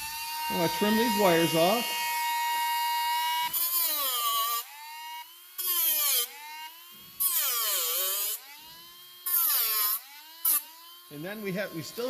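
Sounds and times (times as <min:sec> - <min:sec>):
rotary tool grinding metal: 0:00.0 - 0:12.0
rotary tool whining: 0:00.0 - 0:12.0.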